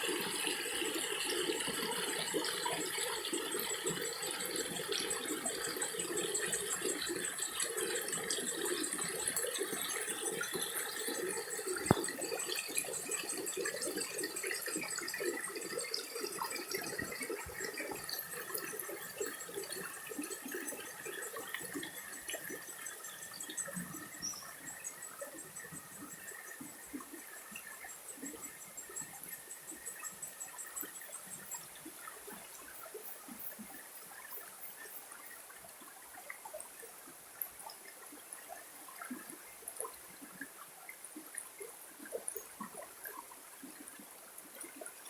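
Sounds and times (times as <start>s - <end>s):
flowing water: 0.0s - 45.0s.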